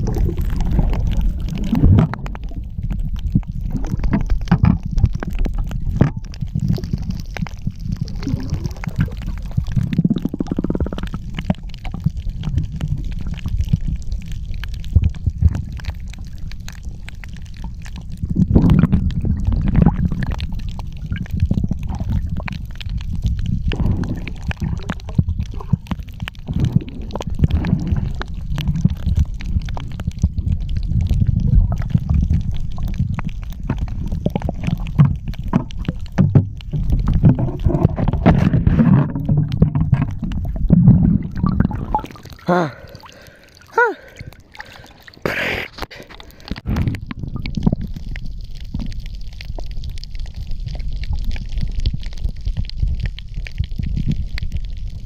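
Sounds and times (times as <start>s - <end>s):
underwater rumble and gurgling: 0.0s - 45.2s, 45.8s - 55.0s.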